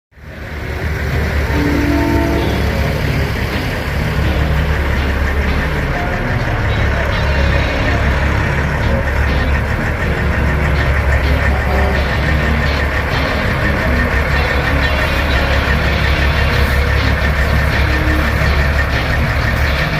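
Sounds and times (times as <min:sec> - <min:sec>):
diesel truck engine running hard: 0:00.2 - 0:19.9.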